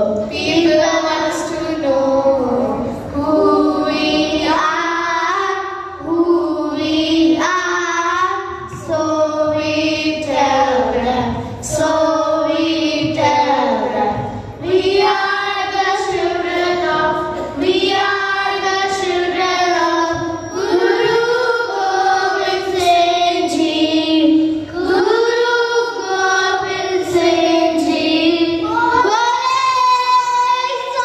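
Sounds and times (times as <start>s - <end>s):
child singing: 0.0s - 31.0s.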